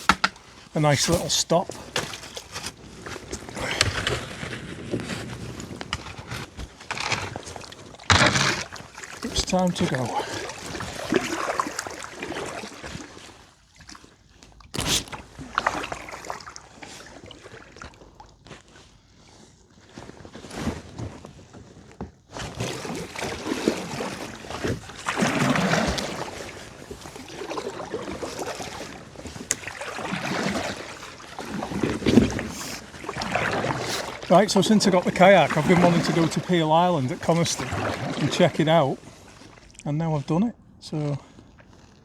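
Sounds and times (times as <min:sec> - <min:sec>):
water trickling off paddle: 0:00.0 - 0:18.7, 0:22.4 - 0:40.4
kayak paddle strokes in water: 0:00.0 - 0:42.0.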